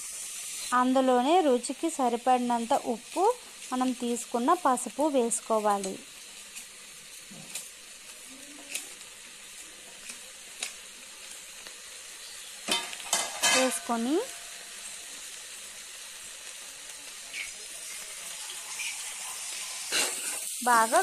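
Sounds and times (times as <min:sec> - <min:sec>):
rice sizzling in ghee: 0:00.0 - 0:21.0.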